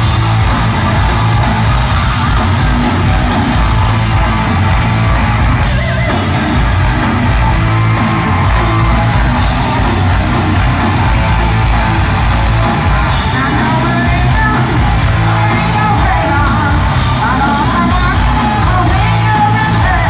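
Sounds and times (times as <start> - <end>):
distorted electric guitar: 0.0 - 20.0
heavy metal band playing: 0.0 - 20.0.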